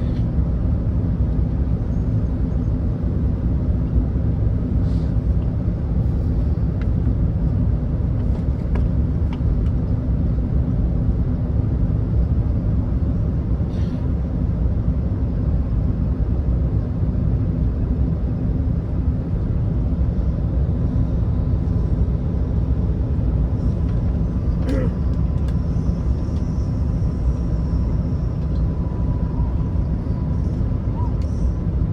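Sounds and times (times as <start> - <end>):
aircraft cabin engine and airflow rumble: 0.0 - 31.9.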